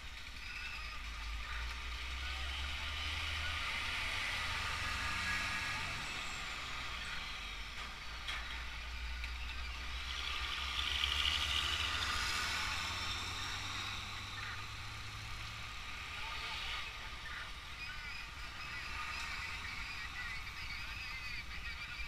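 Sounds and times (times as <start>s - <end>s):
heavy trucks driving past: 0.0s - 22.0s
tyre and traffic noise: 0.0s - 22.0s.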